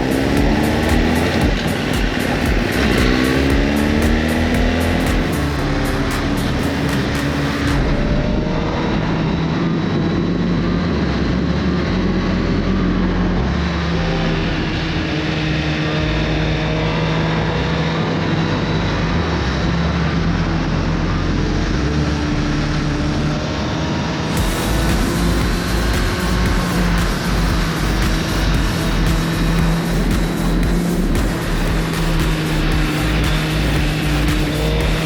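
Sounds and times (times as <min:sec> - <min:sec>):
motorcycle engine running: 0:00.0 - 0:23.5, 0:24.3 - 0:35.0.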